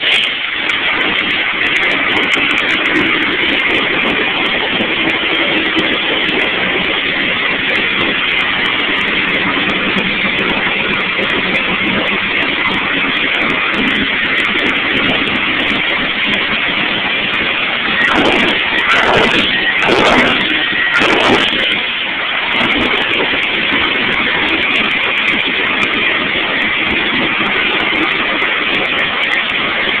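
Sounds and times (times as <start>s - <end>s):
car engine running loudly: 0.0s - 30.0s.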